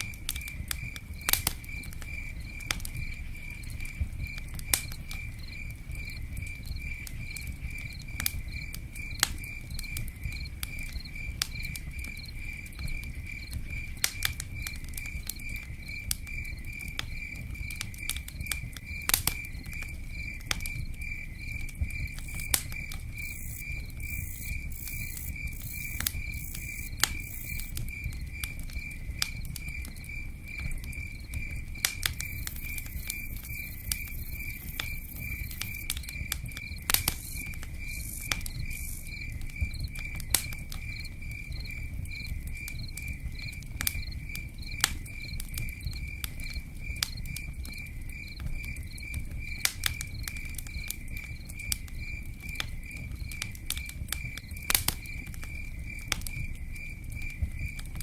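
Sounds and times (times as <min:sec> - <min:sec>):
campfire crackling and popping: 0:00.0 - 0:58.0
cricket chirping: 0:00.0 - 0:58.0
rain pattering: 0:00.0 - 0:58.0.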